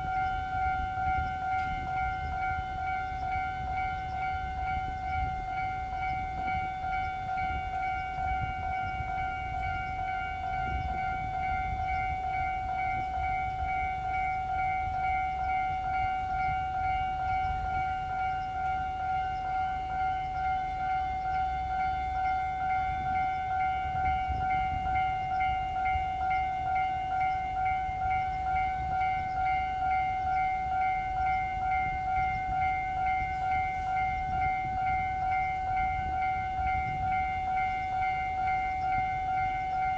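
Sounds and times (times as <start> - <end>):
level-crossing warning alarm ringing: 0.0 - 39.9.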